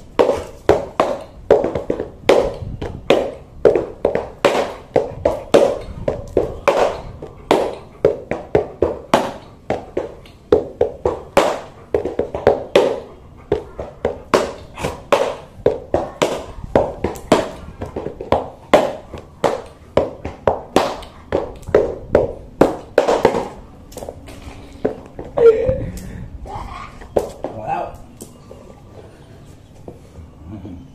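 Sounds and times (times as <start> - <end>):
hand and sneaker patting dog: 0.0 - 25.5.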